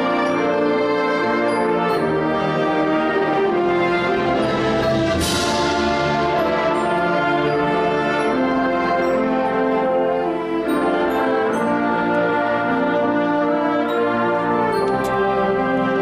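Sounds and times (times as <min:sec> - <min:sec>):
concert wind band playing chords: 0:00.0 - 0:16.0.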